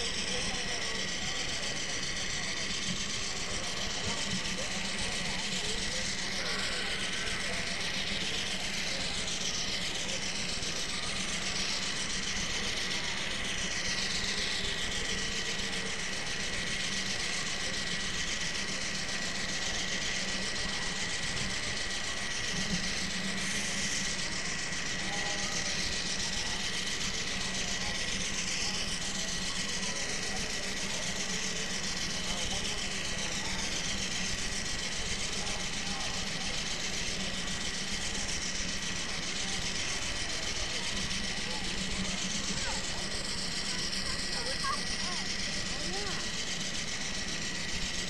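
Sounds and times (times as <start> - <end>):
thin high whine: 0.0 - 48.0.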